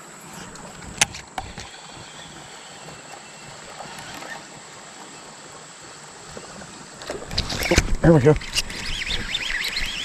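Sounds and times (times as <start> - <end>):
flowing creek water: 0.0 - 10.0.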